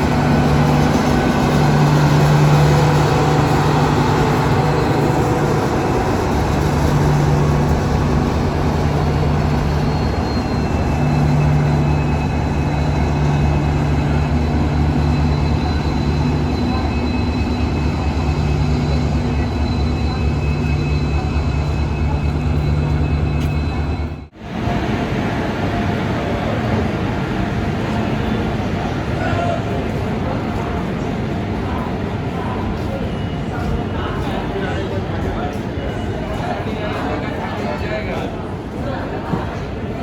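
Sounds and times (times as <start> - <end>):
locomotive engine hum: 0.0 - 40.0.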